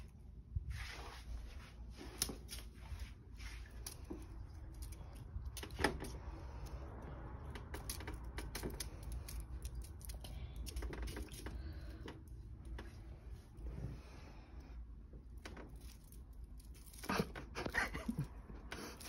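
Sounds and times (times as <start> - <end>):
crinkly wand toy rustling: 0.6 - 14.7, 15.3 - 17.6.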